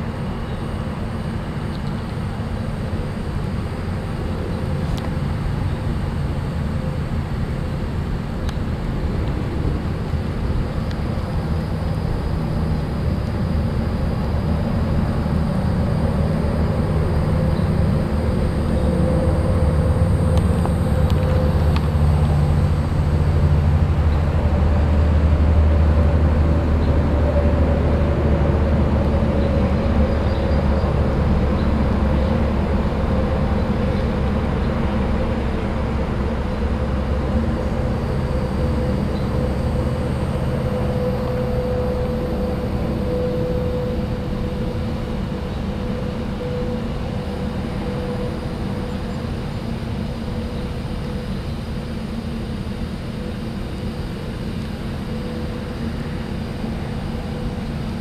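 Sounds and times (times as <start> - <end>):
faint steady hum: 0.0 - 58.0
heavy traffic rumble: 0.0 - 58.0.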